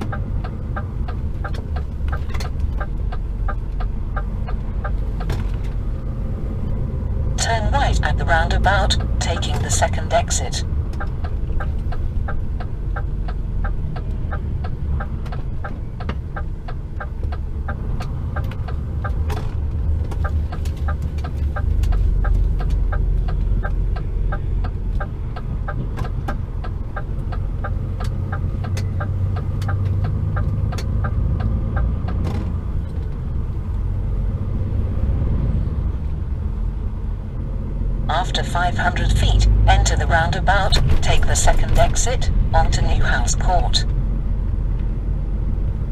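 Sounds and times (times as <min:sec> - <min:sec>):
diesel engine and road rumble: 0:00.0 - 0:45.9.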